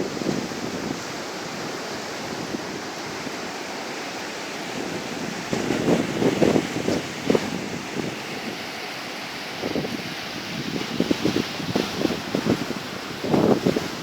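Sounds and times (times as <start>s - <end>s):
sea surf washing ashore: 0.0s - 14.0s
wind blowing on microphone: 0.0s - 14.0s.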